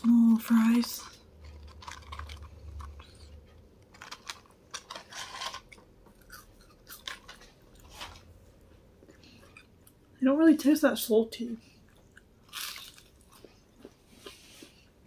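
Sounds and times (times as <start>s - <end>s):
chewing french fries: 0.0s - 10.2s, 11.6s - 15.0s.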